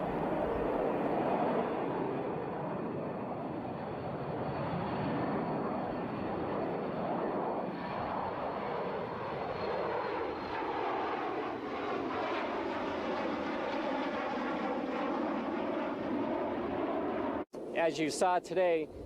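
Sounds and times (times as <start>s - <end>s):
jet engines roaring with whine: 0.0s - 19.0s.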